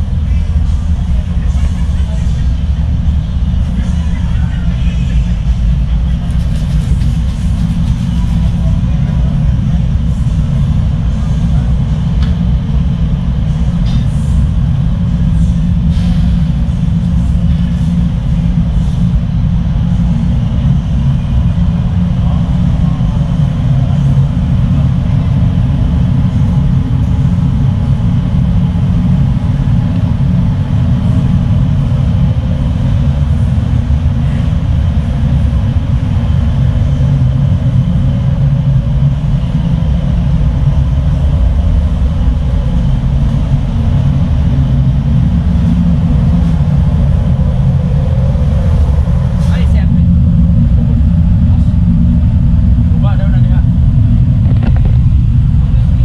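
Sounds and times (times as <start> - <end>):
ferry engines droning: 0.0 - 56.0.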